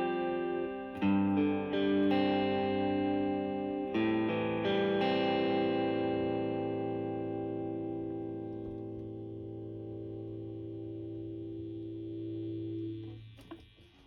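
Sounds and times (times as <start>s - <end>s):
overdriven electric guitar: 0.0s - 13.8s.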